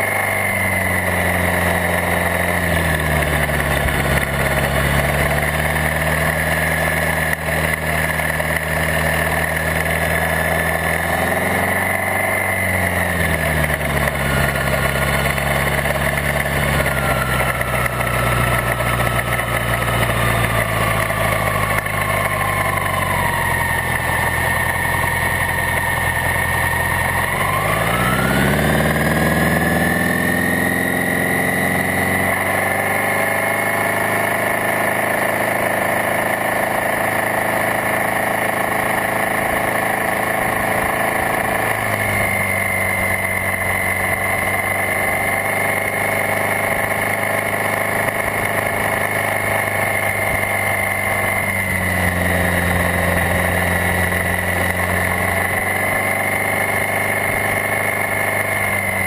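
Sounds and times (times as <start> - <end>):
car engine running: 0.0 - 59.0
high whine: 0.0 - 59.0.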